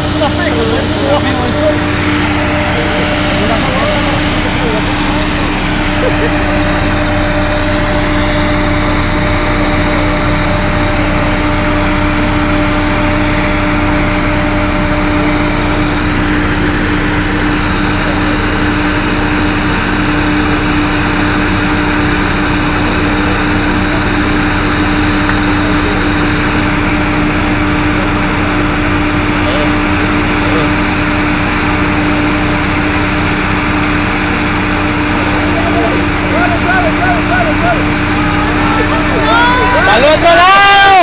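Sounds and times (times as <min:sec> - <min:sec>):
drilling rig engine drone: 0:00.0 - 0:41.0.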